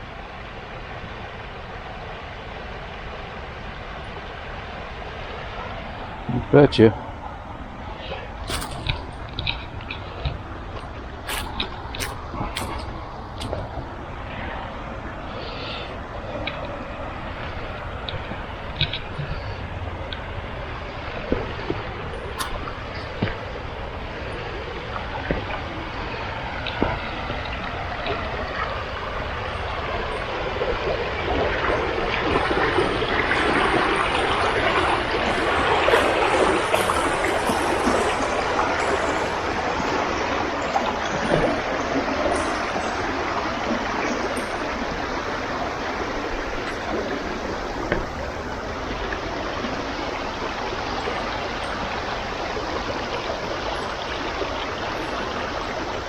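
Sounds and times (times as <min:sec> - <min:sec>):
water running in a creek: 0:00.0 - 0:56.0.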